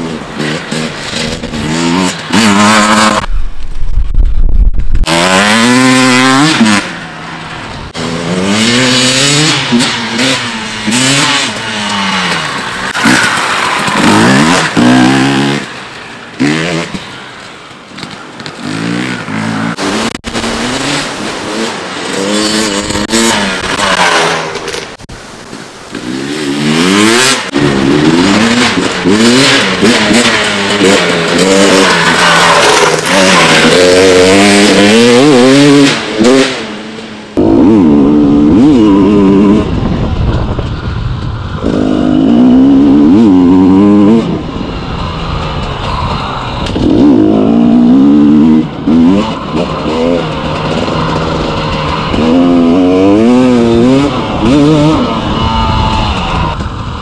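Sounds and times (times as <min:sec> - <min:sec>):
motorcycle engine revving: 0:00.0 - 0:03.5, 0:04.7 - 0:17.0, 0:18.5 - 0:25.1, 0:26.0 - 0:57.0.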